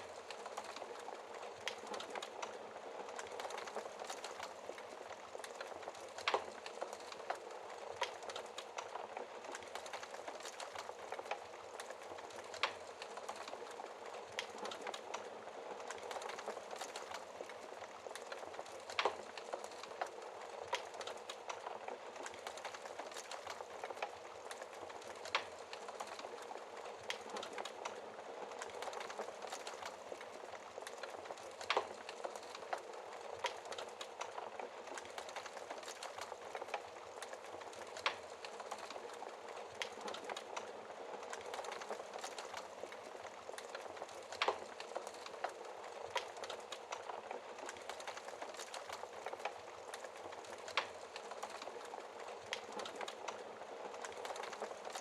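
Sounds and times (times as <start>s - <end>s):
log fire crackling: 0.0s - 55.0s.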